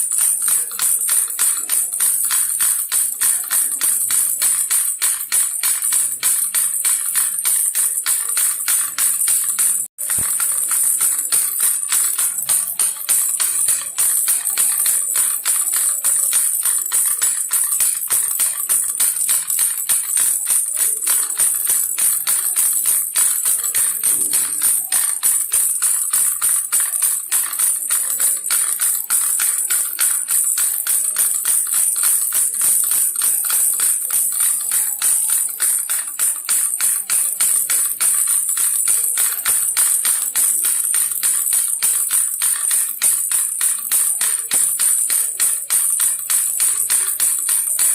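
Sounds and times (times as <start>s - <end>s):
baby rattle shaken: 0.0s - 47.9s.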